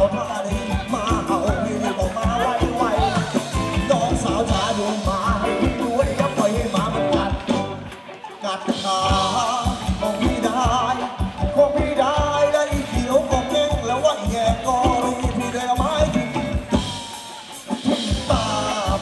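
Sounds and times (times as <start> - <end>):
live band dance music: 0.0 - 19.0
person singing: 0.0 - 19.0.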